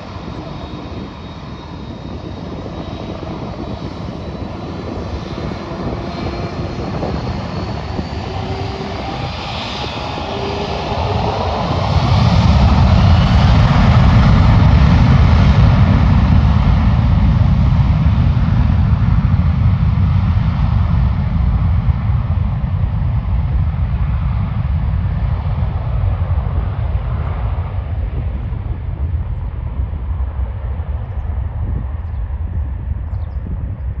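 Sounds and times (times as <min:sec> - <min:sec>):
jet engines whining and rumbling: 0:00.0 - 0:34.0.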